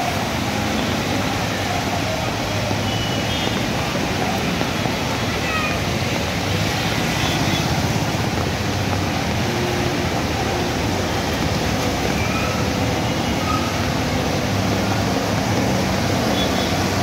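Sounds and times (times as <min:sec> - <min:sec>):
vehicle engines running: 0:00.0 - 0:17.0
water splashing around wheels: 0:00.0 - 0:17.0.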